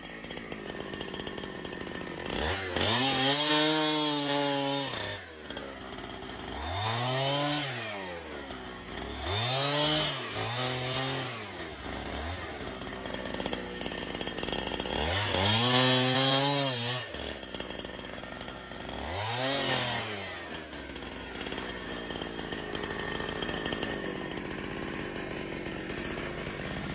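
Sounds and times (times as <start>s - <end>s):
chainsaw engine revving: 0.0s - 26.9s.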